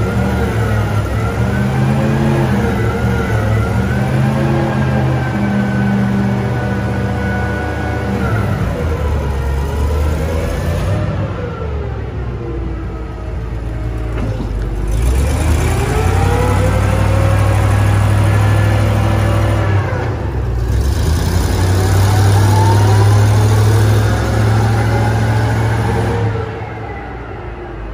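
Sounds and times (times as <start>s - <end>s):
forklift engine revving: 0.0s - 27.9s.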